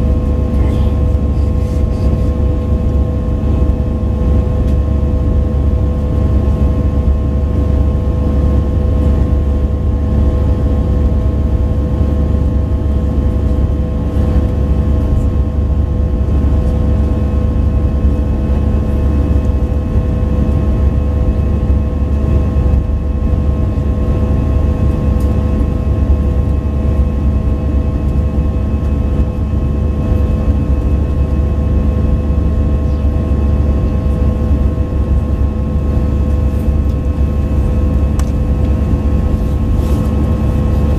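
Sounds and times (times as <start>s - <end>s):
aircraft cabin engine drone: 0.0s - 40.9s.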